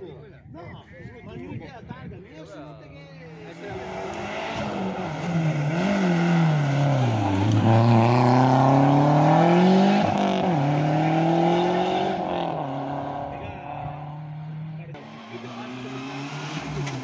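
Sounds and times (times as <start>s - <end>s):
rally car engine revving: 3.3s - 17.0s.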